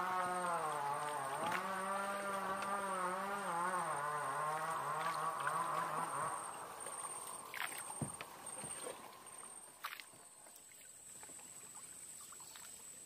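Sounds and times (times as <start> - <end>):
faint water noise: 0.0 - 13.0.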